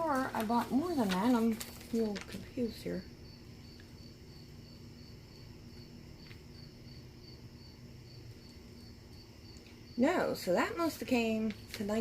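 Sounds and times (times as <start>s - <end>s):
cricket chirping: 2.4s - 12.0s.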